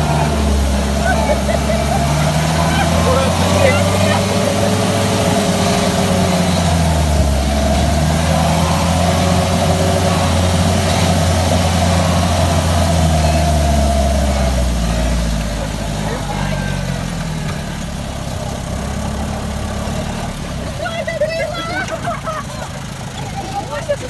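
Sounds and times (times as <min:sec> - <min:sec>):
jeep engine running inside cab: 0:00.0 - 0:24.0.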